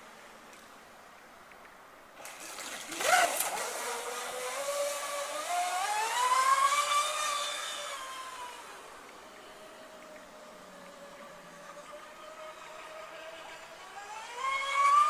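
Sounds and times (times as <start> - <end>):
model boat motor whining: 2.2 - 15.0.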